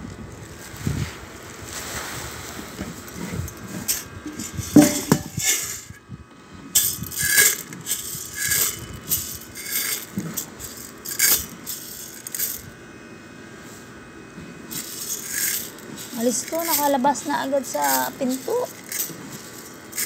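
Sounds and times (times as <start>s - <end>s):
dry grains rattling and rustling: 0.4s - 5.9s, 6.8s - 12.8s, 14.7s - 20.0s.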